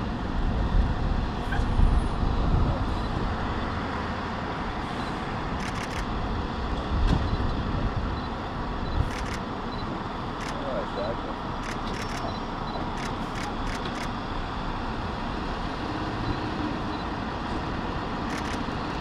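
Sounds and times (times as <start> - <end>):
fire engines running with pumps: 0.0 - 19.0.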